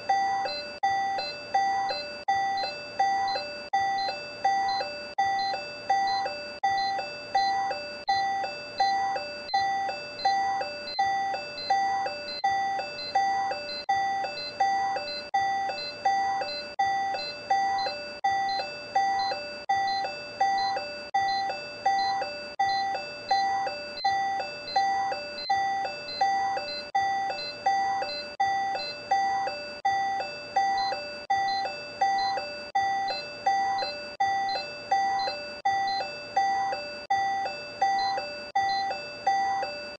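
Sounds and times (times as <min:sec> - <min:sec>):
cardiac monitor beeping: 0:00.0 - 0:39.9.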